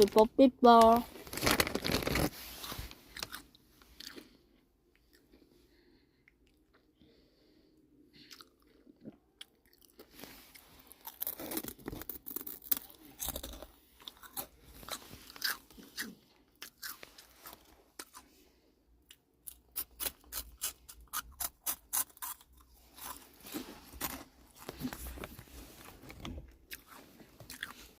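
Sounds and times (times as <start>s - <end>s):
crunching and chewing dried fish: 1.2s - 5.4s, 8.2s - 18.3s, 19.0s - 28.0s.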